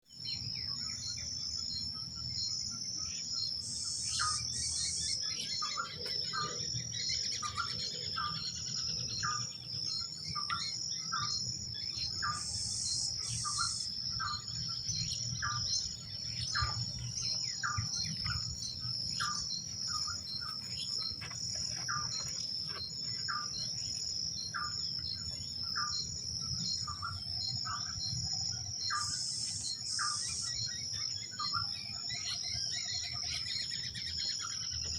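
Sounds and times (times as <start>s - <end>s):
birds calling: 0.1s - 34.9s
high-pitched insect drone: 0.2s - 34.9s.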